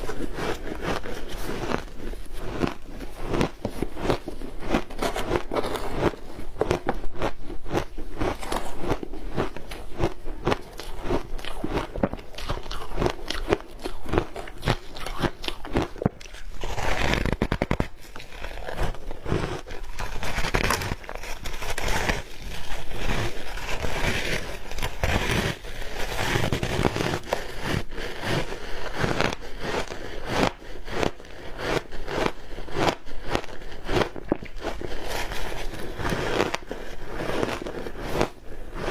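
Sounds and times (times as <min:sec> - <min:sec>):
ice crunching being chewed: 0:00.0 - 0:38.9.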